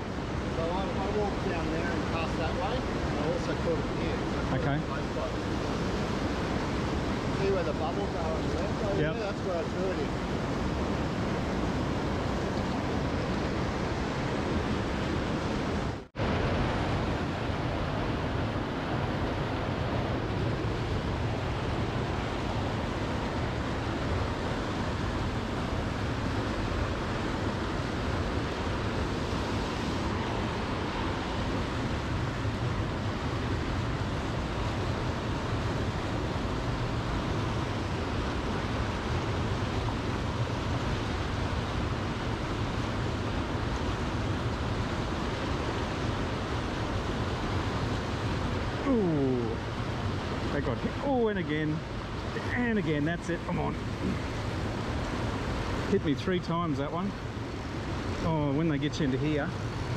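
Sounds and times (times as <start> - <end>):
river water rushing through rapids: 0.0 - 59.9.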